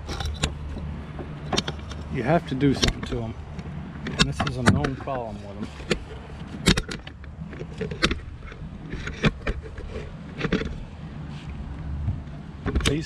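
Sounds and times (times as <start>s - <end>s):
landing net frame clacking: 0.0s - 10.9s
steady low rumble: 0.0s - 13.0s.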